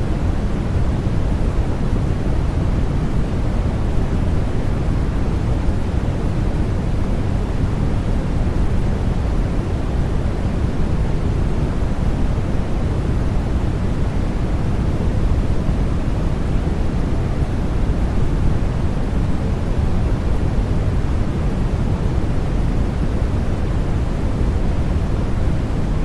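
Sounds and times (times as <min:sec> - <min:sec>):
deep white noise hiss: 0:00.0 - 0:26.0.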